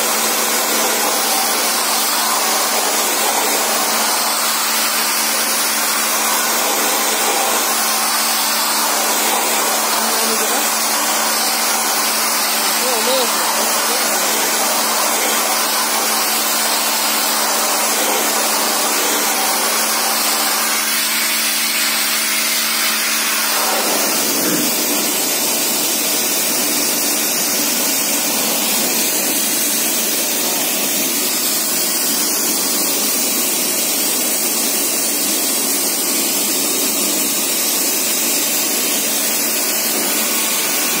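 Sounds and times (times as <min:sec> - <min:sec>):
pressure washer jet spraying: 0:00.0 - 0:41.0
pressure washer motor humming: 0:00.0 - 0:41.0.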